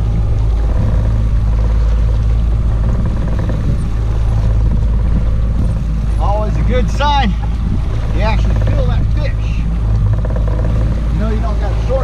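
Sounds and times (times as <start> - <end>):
outboard motor running: 0.0 - 12.0
rush of water and air: 0.0 - 12.0.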